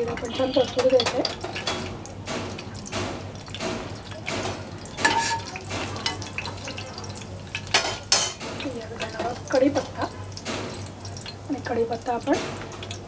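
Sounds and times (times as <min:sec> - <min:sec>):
seeds crackling in hot oil: 0:00.0 - 0:13.0.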